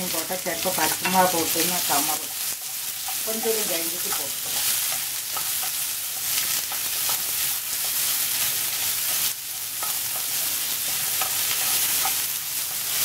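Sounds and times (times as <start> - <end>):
onions sizzling in oil: 0.0 - 13.0
wooden spatula scraping a pan: 0.8 - 13.0.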